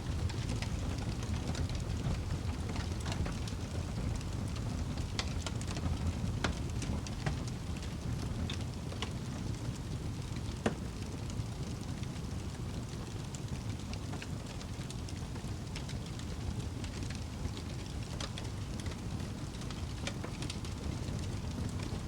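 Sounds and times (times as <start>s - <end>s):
fire crackling and popping: 0.0s - 22.0s
low rumble of flame: 0.0s - 22.0s.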